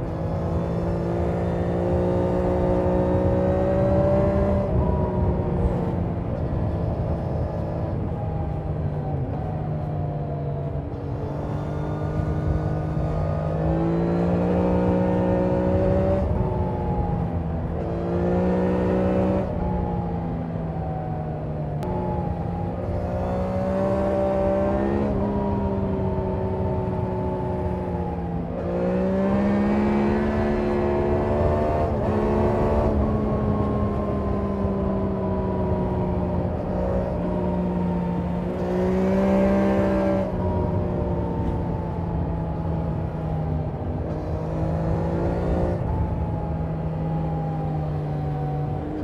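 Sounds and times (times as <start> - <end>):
motorcycle engine revving: 0.0 - 8.2, 10.9 - 19.8, 21.8 - 49.0.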